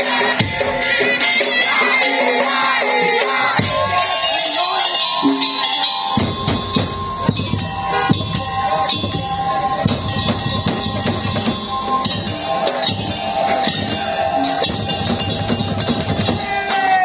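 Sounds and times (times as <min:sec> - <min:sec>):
percussion band playing: 0:00.0 - 0:17.0.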